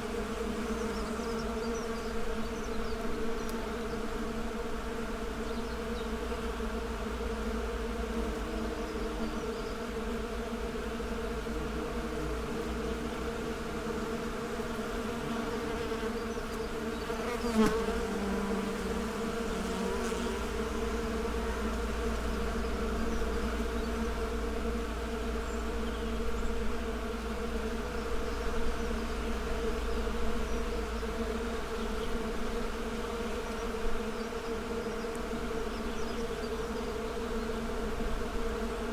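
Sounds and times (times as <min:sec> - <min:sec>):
bee buzzing close by: 0:00.0 - 0:38.9
bees buzzing: 0:00.0 - 0:38.9.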